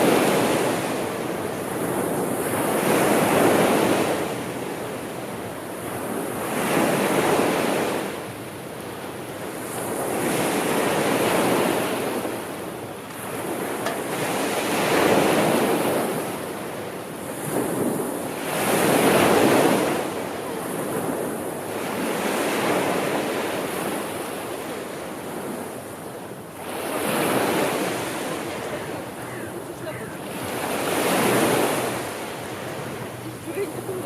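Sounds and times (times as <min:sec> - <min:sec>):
sea waves washing in: 0:00.0 - 0:34.0.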